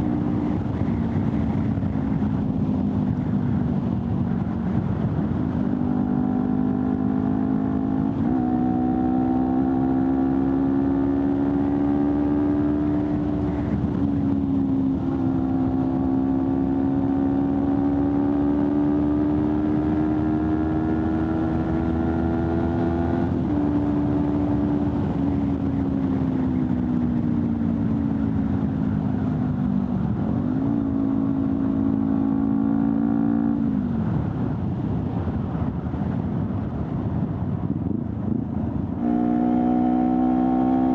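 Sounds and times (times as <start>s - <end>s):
motorcycle engine accelerating: 0.0s - 40.9s
wind rush: 0.0s - 40.9s.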